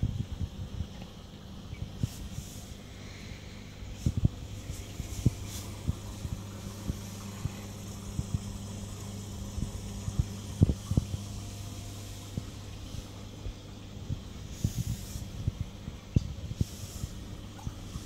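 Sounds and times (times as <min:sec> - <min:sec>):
aquarium filter pump humming: 0:00.0 - 0:18.0.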